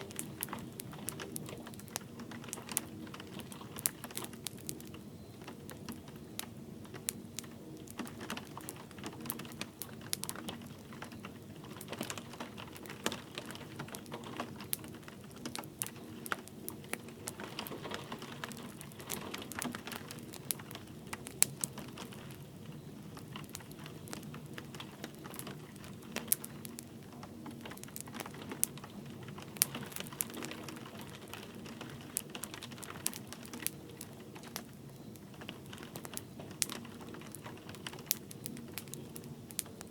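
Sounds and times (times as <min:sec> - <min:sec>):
light rain: 0:00.0 - 0:39.9
wood fire crackling and popping: 0:00.0 - 0:39.9.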